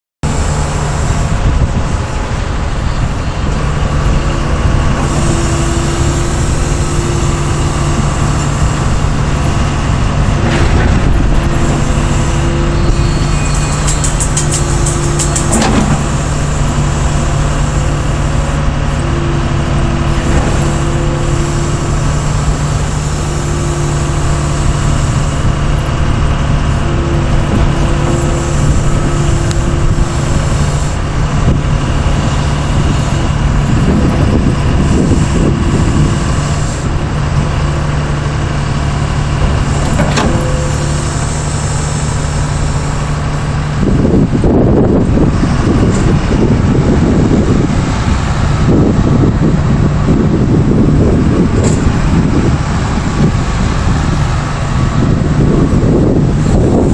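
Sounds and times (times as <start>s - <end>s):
diesel engine running: 0.2s - 56.9s
higher engine tone: 0.2s - 56.9s.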